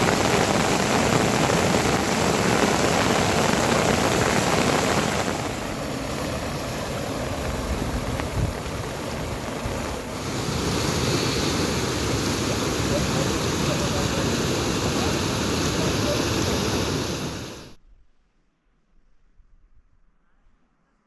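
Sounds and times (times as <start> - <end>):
heavy rain rushing: 0.0 - 17.8.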